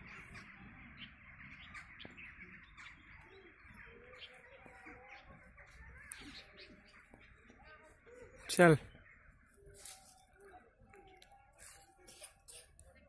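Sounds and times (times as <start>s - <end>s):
chorus of birds chirping: 0.0s - 13.0s.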